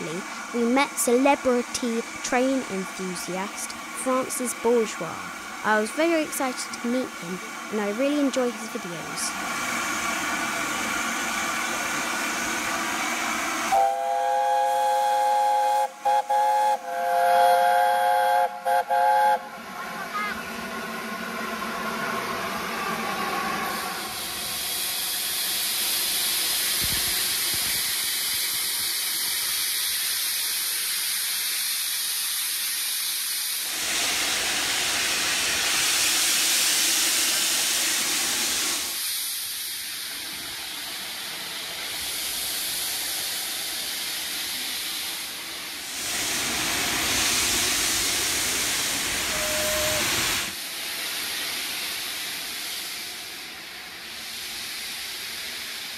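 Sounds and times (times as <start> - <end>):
steam locomotive hissing: 0.0 - 55.9.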